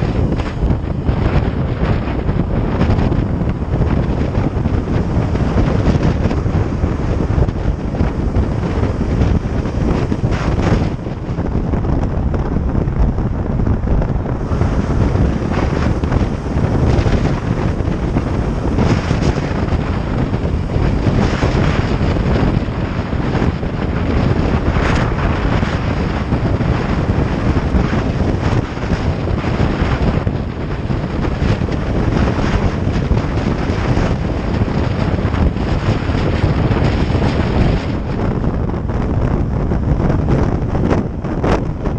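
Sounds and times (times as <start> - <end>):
motorcycle engine running: 0.0 - 41.9
road noise: 0.0 - 41.9
wind buffeting microphone: 0.0 - 41.9.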